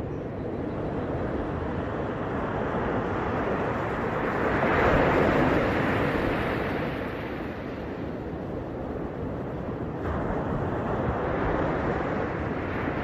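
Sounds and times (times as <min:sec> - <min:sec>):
ocean waves washing in: 0:01.0 - 0:13.0.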